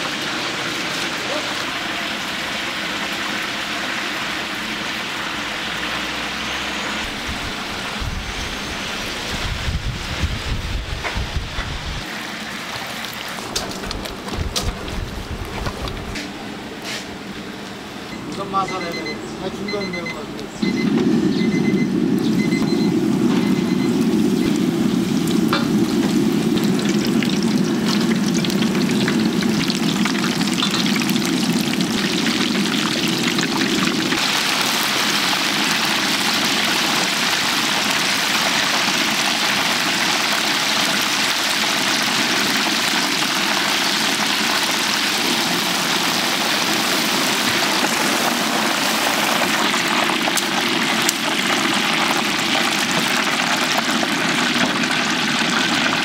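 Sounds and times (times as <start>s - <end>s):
oil sizzling deep-frying food: 0.0s - 17.1s, 20.6s - 56.0s.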